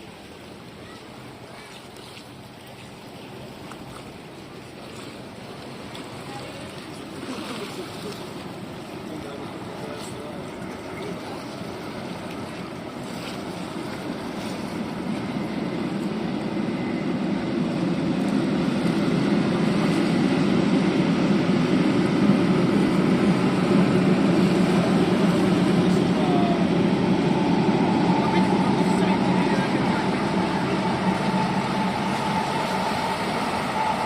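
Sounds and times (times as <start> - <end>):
train rumbling: 3.4 - 34.0.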